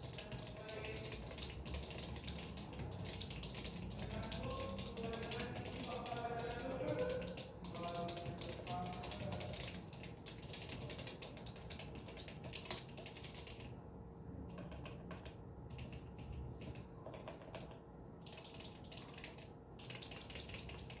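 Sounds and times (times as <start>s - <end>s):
keyboard typing: 0.0s - 13.8s, 14.4s - 21.0s.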